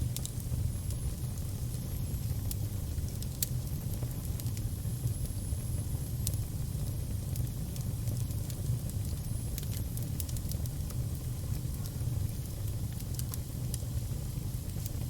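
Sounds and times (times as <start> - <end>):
fire burning with crackles: 0.0 - 15.0.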